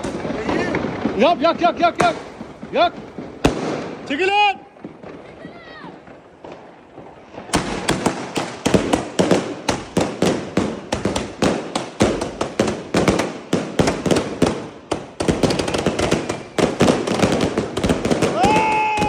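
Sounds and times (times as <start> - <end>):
fireworks banging: 0.0 - 19.0.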